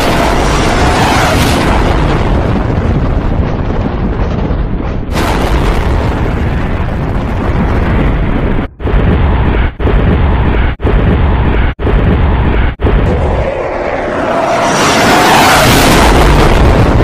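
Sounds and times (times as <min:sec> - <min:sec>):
jet thrust rushing rumble: 0:00.0 - 0:17.0.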